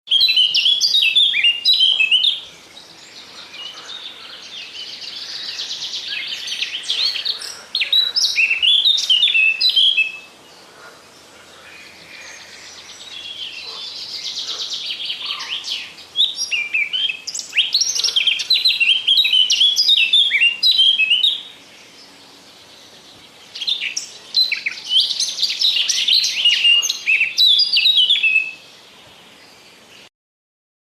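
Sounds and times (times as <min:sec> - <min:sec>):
songbird singing: 0:00.1 - 0:30.1.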